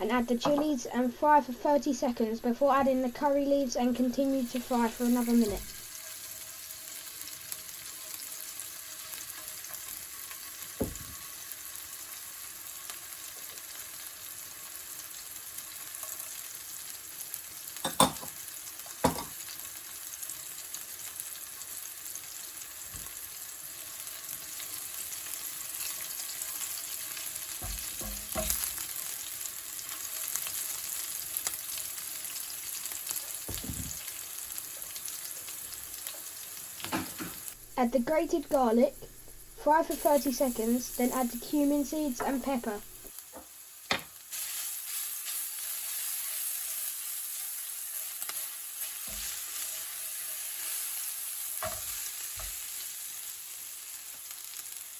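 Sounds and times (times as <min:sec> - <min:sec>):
chillies sizzling in hot oil: 0:02.8 - 0:54.9.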